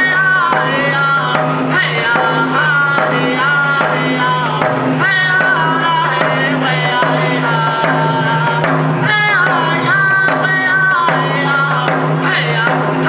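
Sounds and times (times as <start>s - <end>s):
hand drum beat: 0.0s - 13.0s
man singing: 0.0s - 13.0s.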